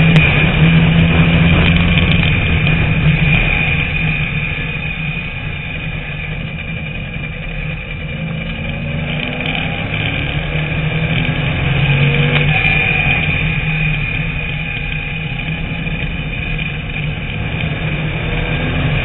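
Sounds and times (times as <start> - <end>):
race car engine accelerating: 0.0 - 19.0
steady high whine: 0.0 - 19.0.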